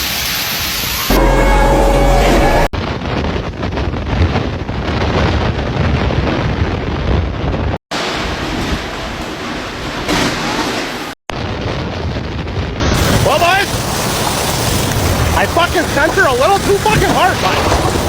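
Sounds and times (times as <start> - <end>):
storm wind buffeting microphone: 2.4 - 18.0.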